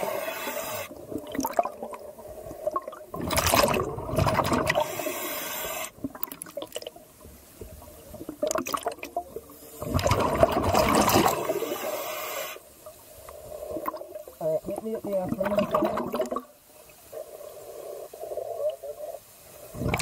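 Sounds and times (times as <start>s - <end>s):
underwater bubbling: 0.0s - 20.0s.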